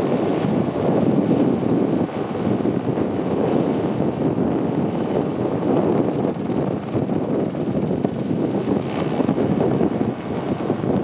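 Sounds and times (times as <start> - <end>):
helicopter flying overhead: 0.0 - 11.0.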